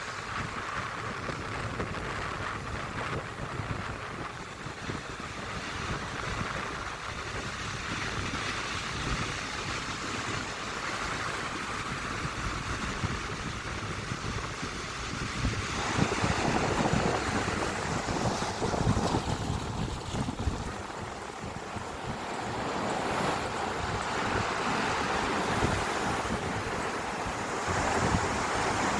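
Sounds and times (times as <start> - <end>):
ocean surf: 0.0 - 28.9
wind rumbling on microphone: 0.0 - 28.9.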